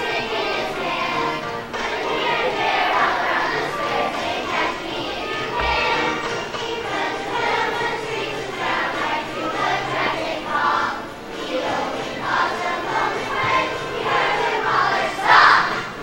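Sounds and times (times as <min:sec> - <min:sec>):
children singing in chorus: 0:00.0 - 0:16.0
song over loudspeakers: 0:00.0 - 0:16.0.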